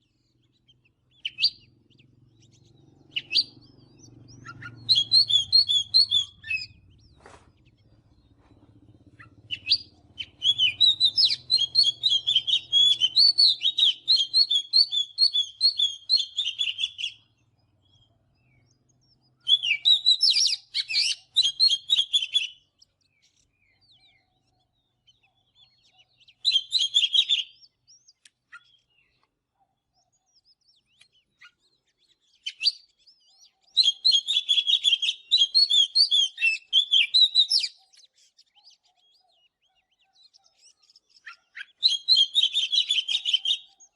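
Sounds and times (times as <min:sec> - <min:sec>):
bird singing whistled notes: 0:00.0 - 0:43.9.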